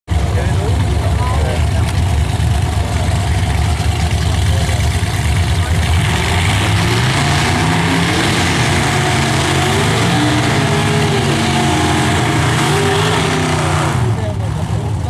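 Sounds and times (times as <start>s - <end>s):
car engine at high revs: 0.1s - 15.0s.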